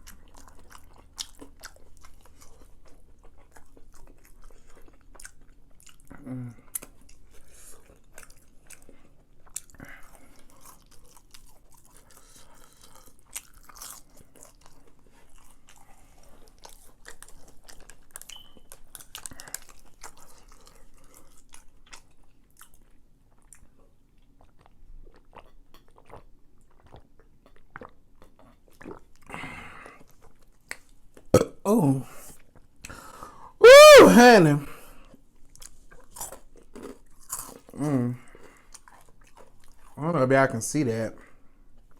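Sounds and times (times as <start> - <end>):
chewing crispy chicken: 0.0 - 31.4, 35.4 - 41.9.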